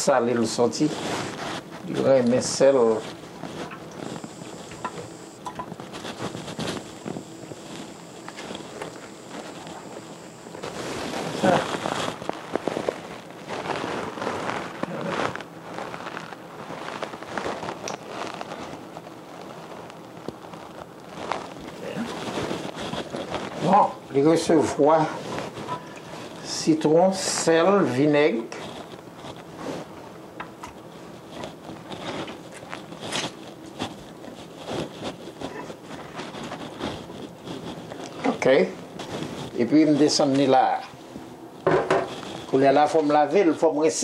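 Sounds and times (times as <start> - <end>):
hands rubbing raw fish: 0.4 - 40.9, 42.0 - 43.8.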